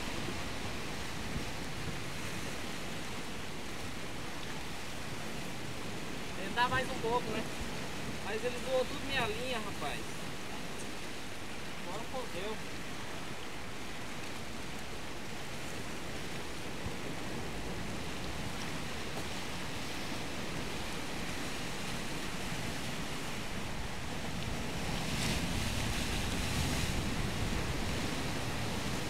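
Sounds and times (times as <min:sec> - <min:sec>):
sea surf washing: 0:00.0 - 0:29.0.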